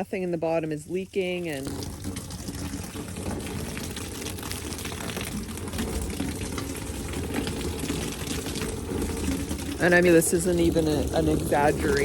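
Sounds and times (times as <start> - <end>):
water pouring from hose: 0.0 - 12.0.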